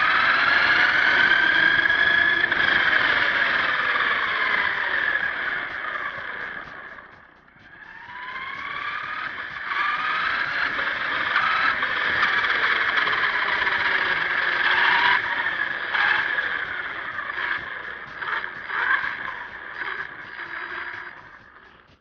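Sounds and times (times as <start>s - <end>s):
toy truck drivetrain whining: 0.0s - 22.0s.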